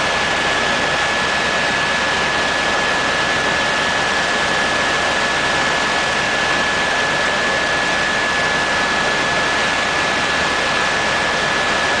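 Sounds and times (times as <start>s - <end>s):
aircraft cabin engine and airflow: 0.0s - 12.0s.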